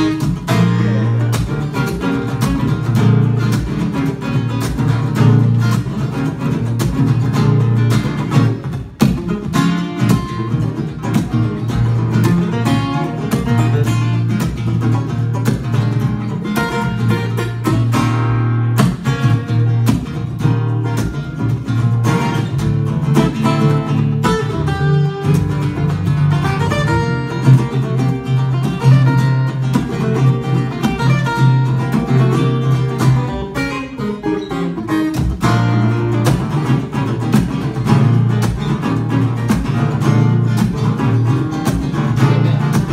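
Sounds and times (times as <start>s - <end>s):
acoustic guitars playing duet: 0.0s - 42.9s
percussive guitar strikes: 0.0s - 42.9s.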